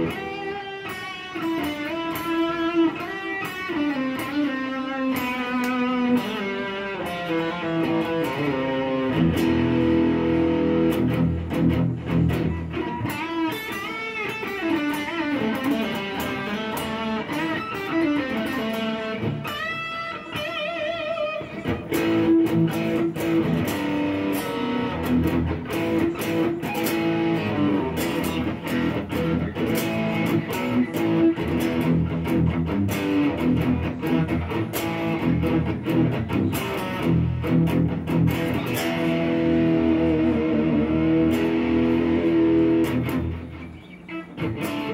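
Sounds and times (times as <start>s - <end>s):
clean electric guitar: 0.0s - 44.9s.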